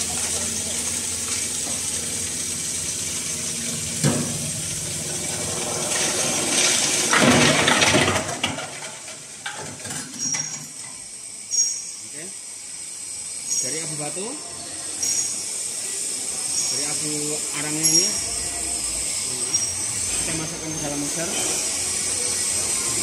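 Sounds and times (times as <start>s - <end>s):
hammer mill grinding charcoal: 0.0s - 23.0s.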